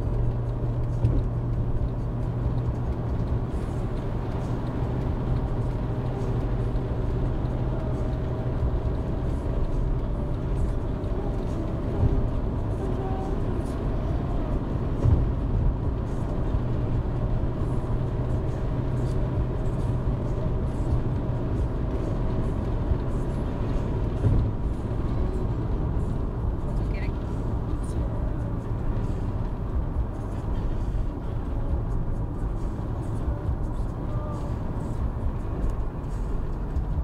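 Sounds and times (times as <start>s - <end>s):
road and engine noise inside vehicle: 0.0s - 37.0s.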